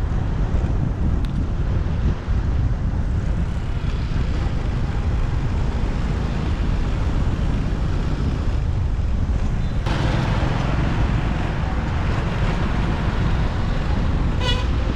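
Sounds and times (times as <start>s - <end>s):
motorbike road noise: 0.0s - 14.9s
wind on microphone: 0.0s - 14.9s.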